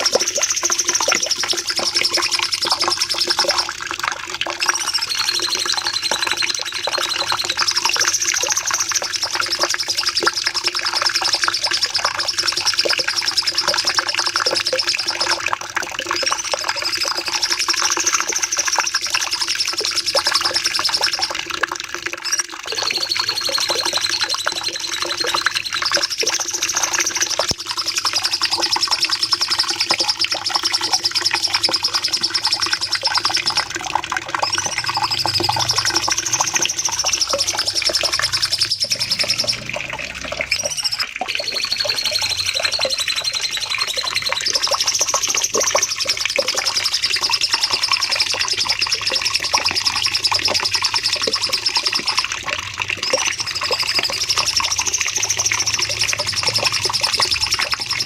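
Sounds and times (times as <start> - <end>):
songbird high-pitched trill: 0.0 - 3.8, 4.6 - 21.4, 22.2 - 52.3, 53.0 - 58.0.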